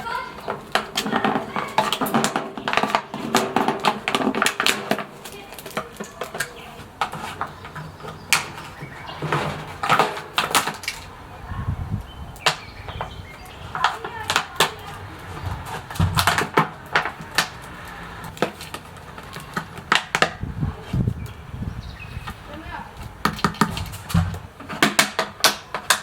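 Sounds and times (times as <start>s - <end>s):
handling clicks and knocks: 0.0s - 11.2s, 12.0s - 21.4s, 22.2s - 26.0s.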